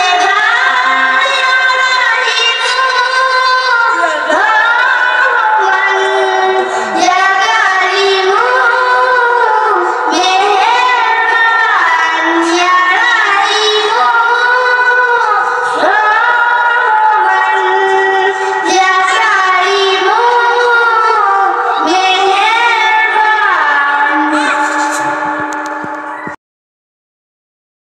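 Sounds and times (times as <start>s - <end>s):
girl singing into a microphone: 0.0s - 26.4s.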